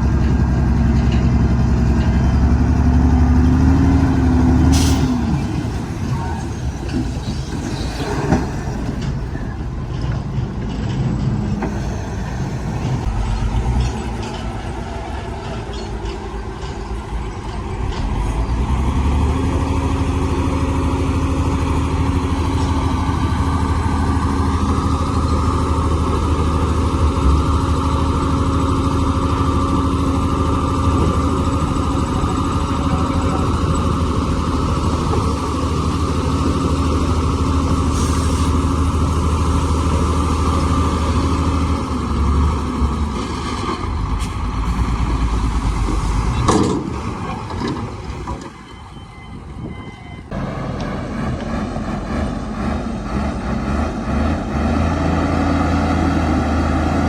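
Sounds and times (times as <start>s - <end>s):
heavy diesel machinery engine: 0.0s - 57.0s.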